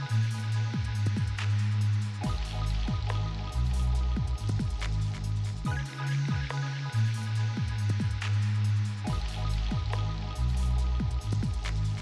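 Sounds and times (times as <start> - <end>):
deep electronic bass line: 0.0 - 12.0.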